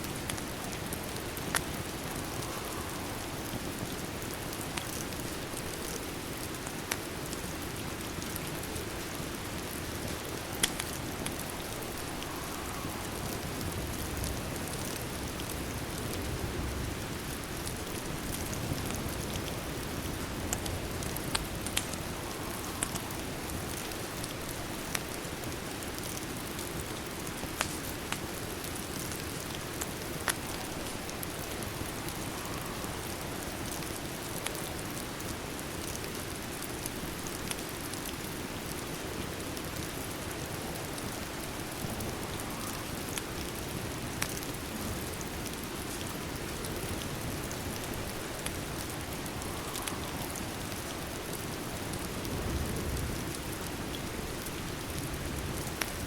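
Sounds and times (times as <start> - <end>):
steady rain falling: 0.0 - 56.0
wood fire popping and crackling: 0.0 - 56.0.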